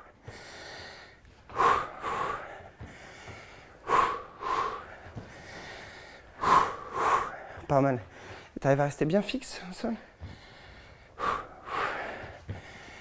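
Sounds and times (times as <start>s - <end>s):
person breathing hard: 0.0s - 8.6s, 10.0s - 13.0s.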